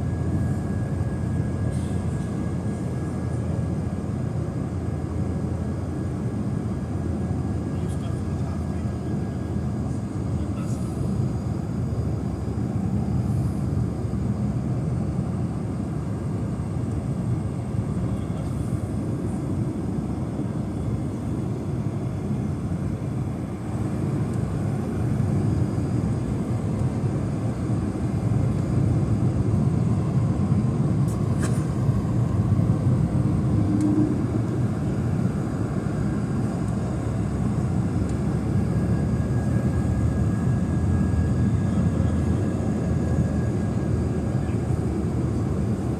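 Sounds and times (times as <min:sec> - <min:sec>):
jet engine rumble: 0:00.0 - 0:45.9.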